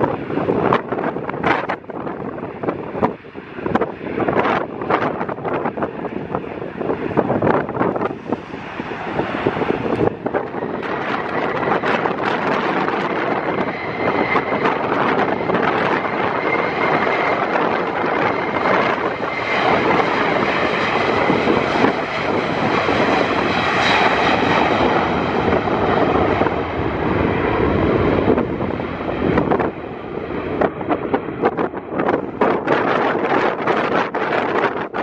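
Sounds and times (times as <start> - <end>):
jet engines running loud: 0.0 - 35.0
wind buffeting microphone: 0.0 - 35.0.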